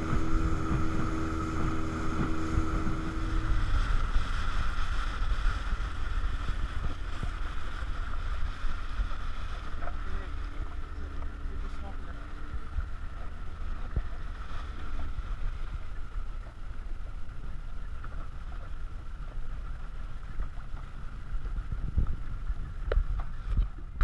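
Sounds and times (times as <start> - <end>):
boat motor droning: 0.0 - 24.0
wind rumble on microphone: 0.0 - 24.0.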